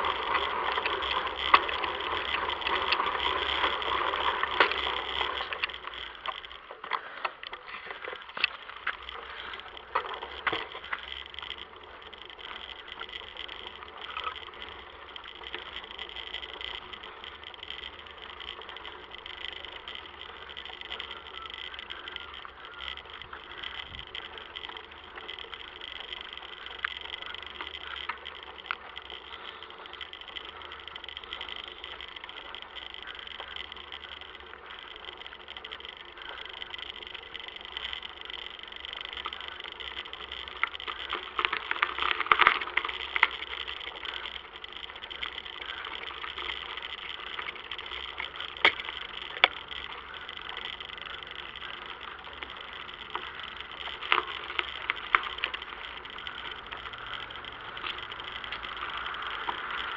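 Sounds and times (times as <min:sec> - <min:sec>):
bicycle tyre and road noise: 0:00.0 - 0:59.9
bike rattles and clicks: 0:00.0 - 0:59.9.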